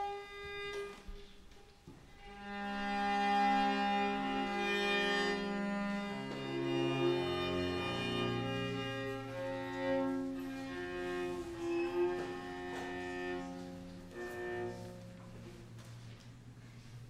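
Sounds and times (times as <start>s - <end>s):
slow music of long held notes: 0.0s - 17.0s.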